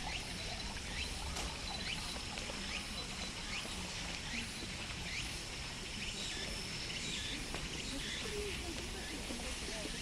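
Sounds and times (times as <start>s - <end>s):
cicadas singing: 0.0s - 10.0s.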